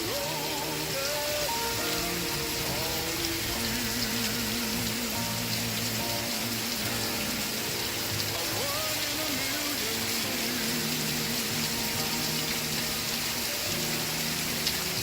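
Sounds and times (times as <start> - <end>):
faint slow melody: 0.0 - 15.0
steady rain: 0.0 - 15.0.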